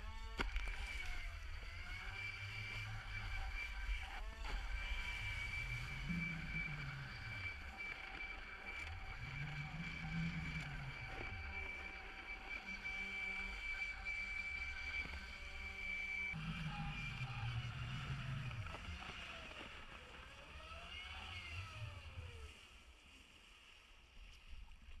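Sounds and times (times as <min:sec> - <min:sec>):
electric motor whine: 0:00.0 - 0:22.8.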